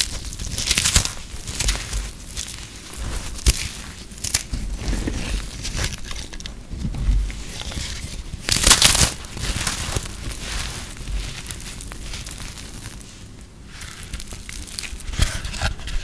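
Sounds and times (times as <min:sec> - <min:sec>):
hands crumbling puffed soap: 0:00.0 - 0:16.0.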